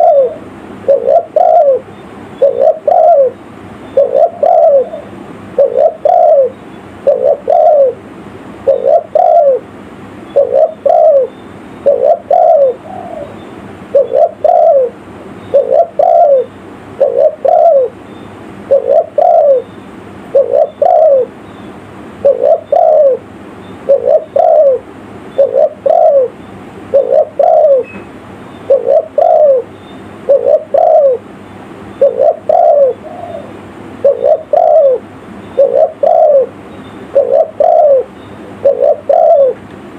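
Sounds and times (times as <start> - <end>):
dove cooing: 0.0 - 8.0, 8.6 - 9.7, 10.3 - 18.0, 18.7 - 19.7, 20.3 - 21.4, 22.2 - 23.2, 23.8 - 27.9, 28.6 - 31.3, 32.0 - 39.6.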